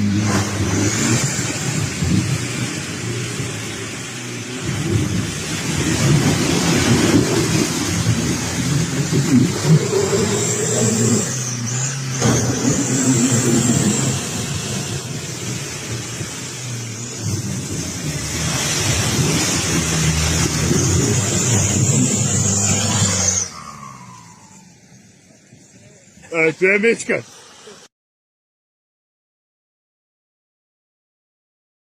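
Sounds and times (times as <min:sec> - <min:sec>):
off-road vehicle engine revving: 0:00.0 - 0:27.8.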